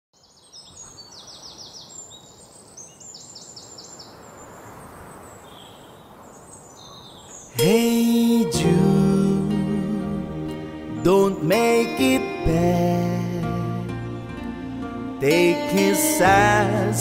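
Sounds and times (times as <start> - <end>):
birds chirping in trills: 0.2 - 17.0.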